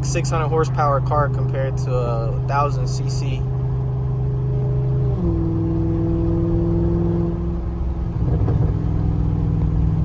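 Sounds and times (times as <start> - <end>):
car engine and exhaust: 0.0 - 10.0.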